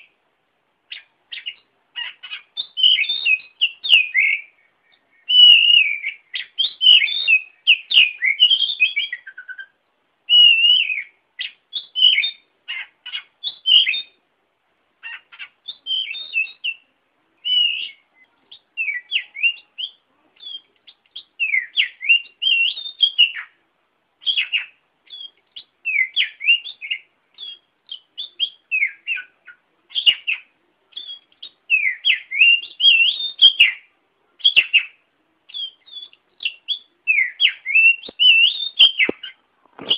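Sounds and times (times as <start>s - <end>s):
bird singing whistled notes: 0.9s - 14.2s, 15.0s - 23.6s, 24.2s - 39.9s.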